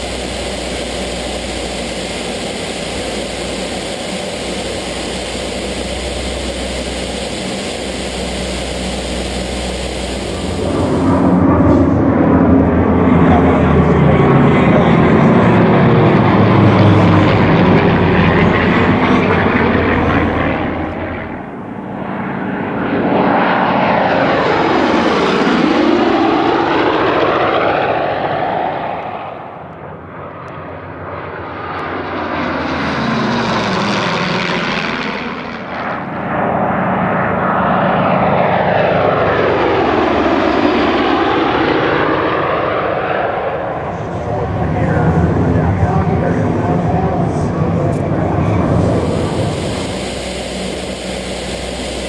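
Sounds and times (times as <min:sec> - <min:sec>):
propeller aircraft flying past: 0:00.0 - 0:52.0.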